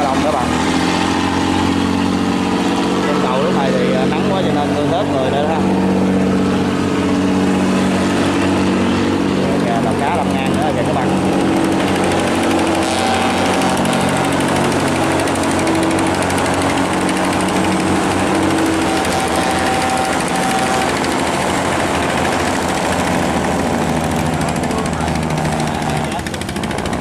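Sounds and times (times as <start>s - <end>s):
high steady tone: 0.0s - 26.5s
boat engine rattling drone: 0.0s - 27.0s.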